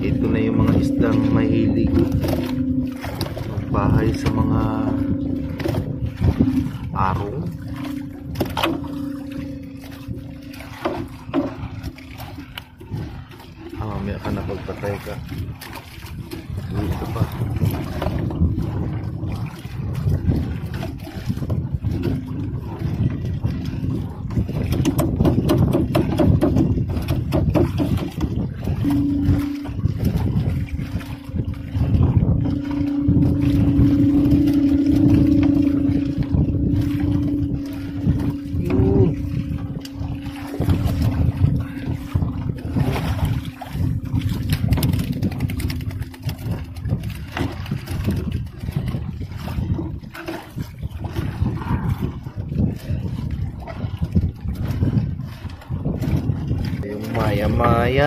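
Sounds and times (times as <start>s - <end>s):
steady low hum: 0.0s - 25.2s, 26.4s - 49.4s
knocking against wooden hull: 0.0s - 58.0s
steady low rumble: 0.0s - 58.0s.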